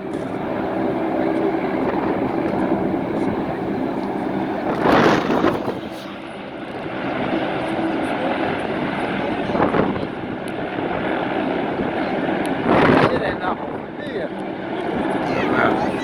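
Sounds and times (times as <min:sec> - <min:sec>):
steady engine drone: 0:00.0 - 0:16.0.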